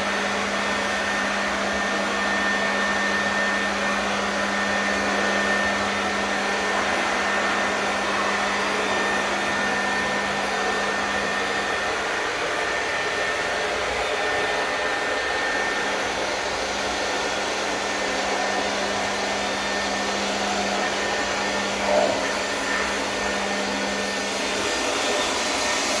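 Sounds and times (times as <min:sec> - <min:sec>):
electric motor drone: 0:00.0 - 0:26.0.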